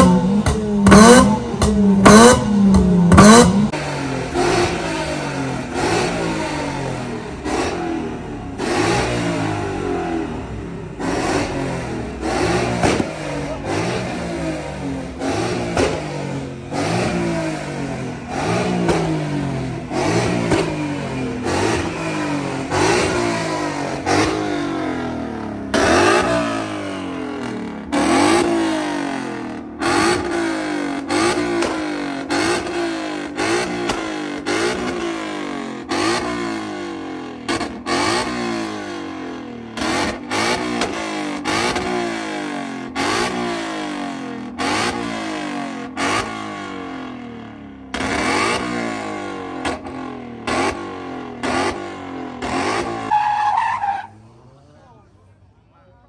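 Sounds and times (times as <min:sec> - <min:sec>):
car engine revving: 0:00.0 - 0:54.5.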